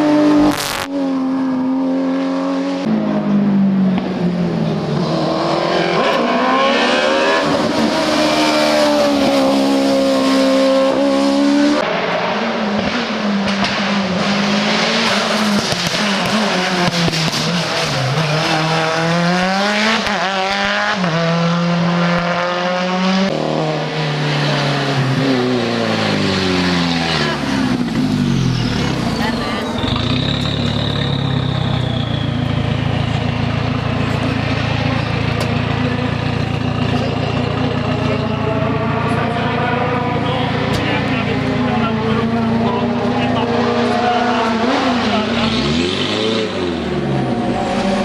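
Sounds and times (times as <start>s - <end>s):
race car engine accelerating: 0.0s - 48.0s.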